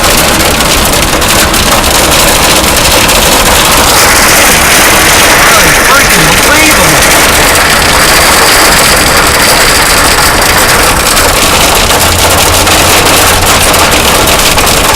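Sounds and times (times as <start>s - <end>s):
hailstones clattering: 0.0s - 14.9s
rush of heavy precipitation: 0.0s - 14.9s.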